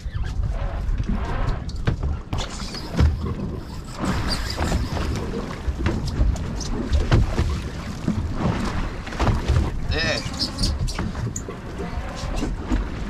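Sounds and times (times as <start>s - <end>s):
water slapping boat hull: 0.0s - 13.0s.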